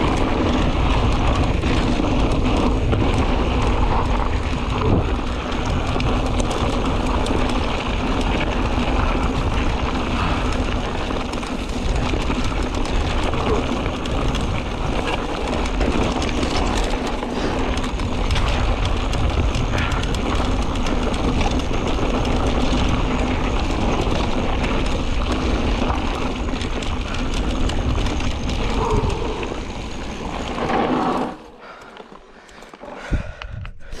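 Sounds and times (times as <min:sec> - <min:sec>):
wind rumble on microphone: 0:00.0 - 0:30.7, 0:33.0 - 0:34.0
bike tyres on gravel: 0:00.0 - 0:34.0.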